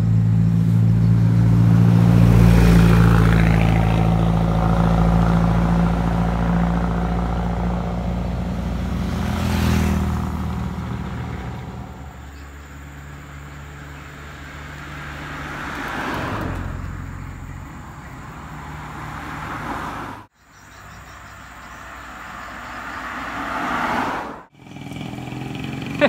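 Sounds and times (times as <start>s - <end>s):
cars passing on a road: 0.0s - 26.0s.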